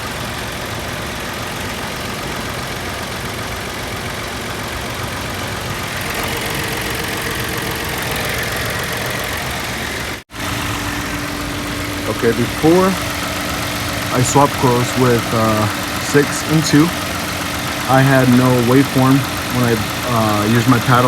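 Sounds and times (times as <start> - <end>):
car engine idling with misfire: 0.0 - 21.0.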